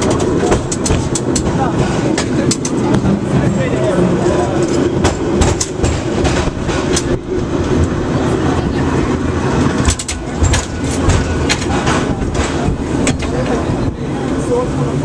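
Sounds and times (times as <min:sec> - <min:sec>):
cable car clanks and clicks: 0:00.0 - 0:15.0
cable car rumble: 0:00.0 - 0:15.0.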